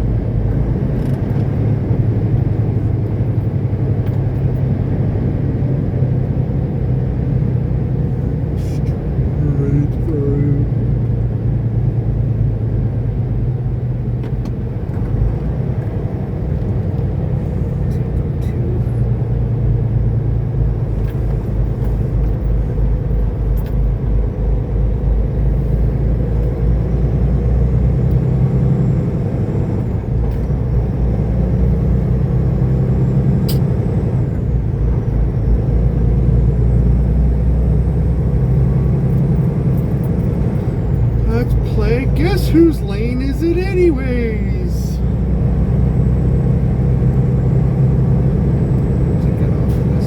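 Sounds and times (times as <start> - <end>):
truck diesel engine drone: 0.0 - 50.0.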